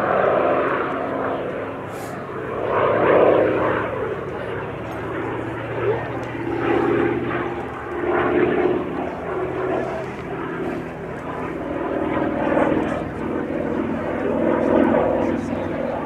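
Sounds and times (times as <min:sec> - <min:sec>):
propeller aircraft engine drone: 0:00.0 - 0:16.0.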